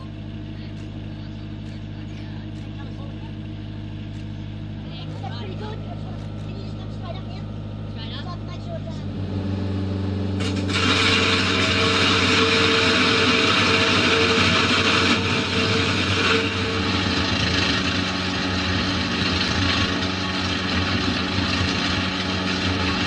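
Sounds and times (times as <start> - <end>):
machine engine running: 0.0 - 23.0.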